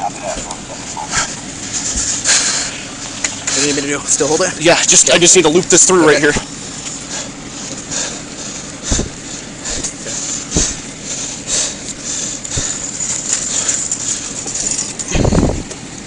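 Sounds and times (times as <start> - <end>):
heavy bump: 0.0 - 5.0, 7.6 - 15.7.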